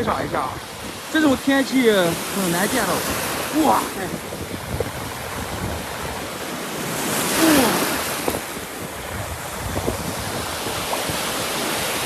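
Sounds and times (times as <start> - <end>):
sea waves breaking on shore: 0.0 - 12.0
wind buffeting microphone: 0.0 - 12.0.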